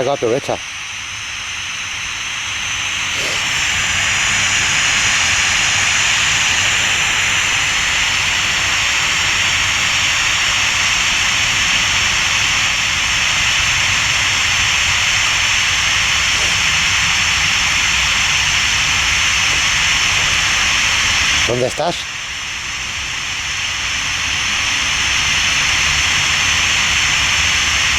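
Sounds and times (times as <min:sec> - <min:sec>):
white noise hiss: 0:00.0 - 0:27.9.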